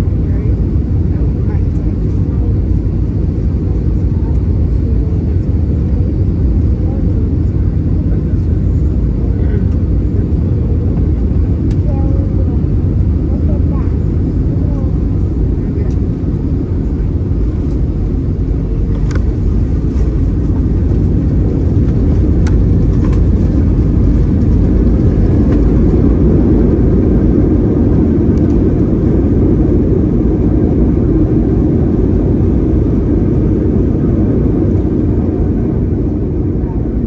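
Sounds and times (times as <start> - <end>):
low rumble of engines and wheels: 0.0 - 37.0.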